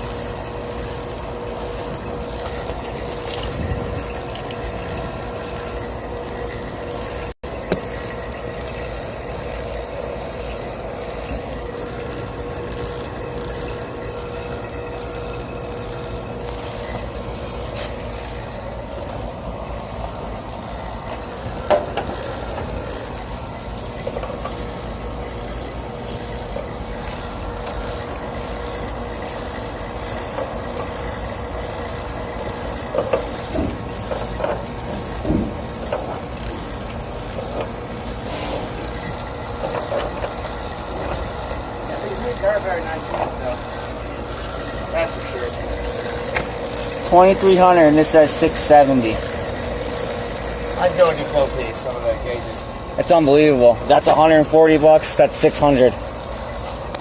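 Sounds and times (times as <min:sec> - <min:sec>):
vacuum pump running: 0:00.0 - 0:57.0.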